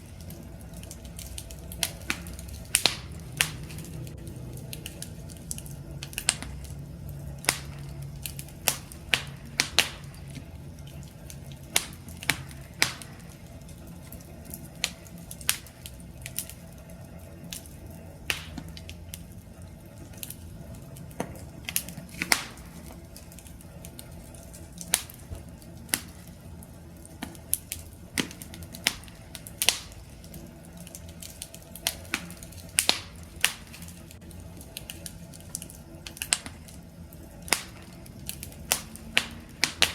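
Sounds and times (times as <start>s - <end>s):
burning wood pops and snaps: 0.0s - 39.9s
low rumble of flames: 0.0s - 39.9s.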